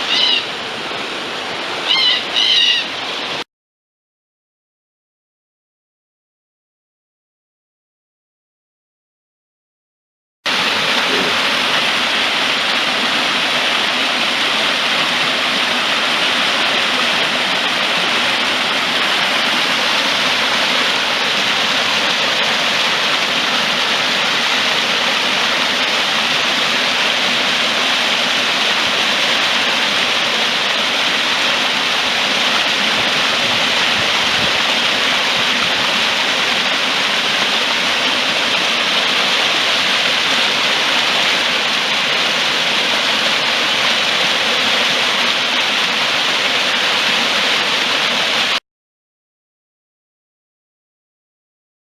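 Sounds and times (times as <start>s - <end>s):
stream water flowing: 0.0s - 3.4s, 10.5s - 48.6s.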